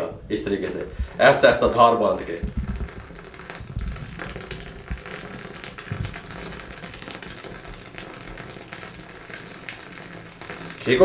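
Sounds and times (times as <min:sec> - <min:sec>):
milk pouring into coffee: 0:00.5 - 0:11.0.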